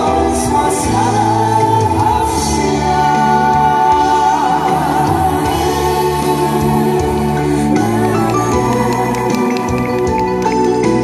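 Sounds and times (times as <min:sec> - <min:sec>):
men singing with held notes: 0:00.0 - 0:09.6
backing music over pa speakers: 0:00.0 - 0:11.0.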